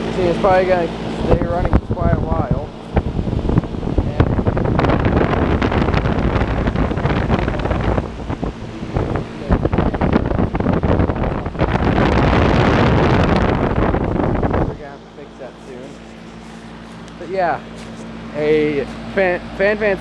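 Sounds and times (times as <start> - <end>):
wind buffeting microphone: 0.0 - 19.1
heat pump humming: 0.0 - 20.0.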